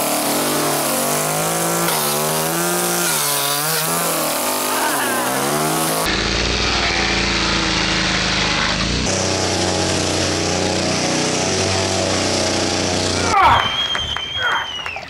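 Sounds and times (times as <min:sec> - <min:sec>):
chainsaw cutting wood: 0:00.0 - 0:14.4
petrol chainsaw running: 0:00.0 - 0:14.4.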